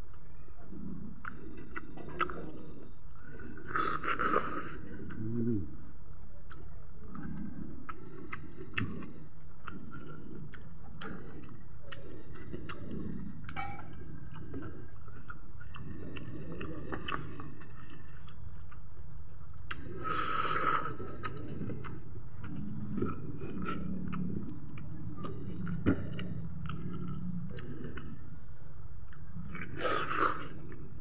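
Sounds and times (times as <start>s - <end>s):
person chewing: 0.8s - 5.4s, 6.5s - 28.4s, 29.0s - 31.0s.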